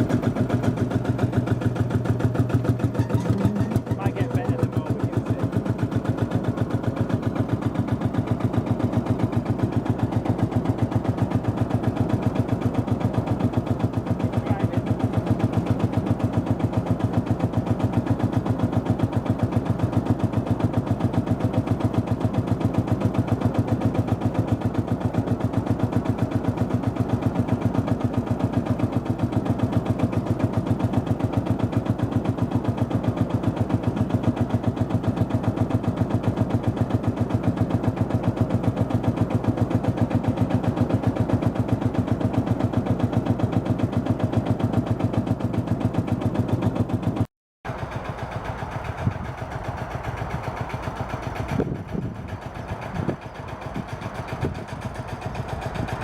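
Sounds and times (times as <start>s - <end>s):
tractor diesel engine chuffing: 0.0s - 56.0s.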